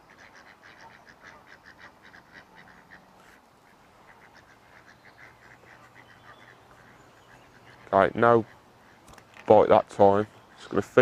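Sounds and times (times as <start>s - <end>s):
duck quacking: 0.0s - 9.0s.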